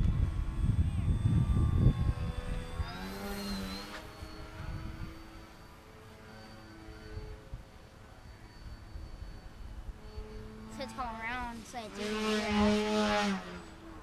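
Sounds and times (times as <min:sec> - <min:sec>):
model airplane engine passing: 0:00.0 - 0:14.0.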